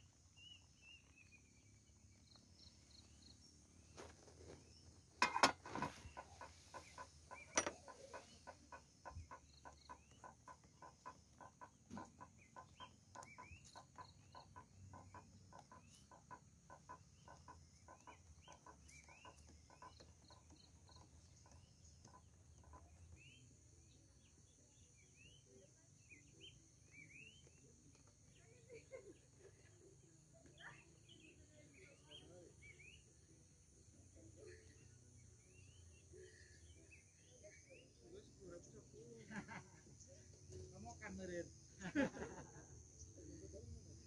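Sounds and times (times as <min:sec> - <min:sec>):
birds chirping: 0:00.0 - 0:42.4.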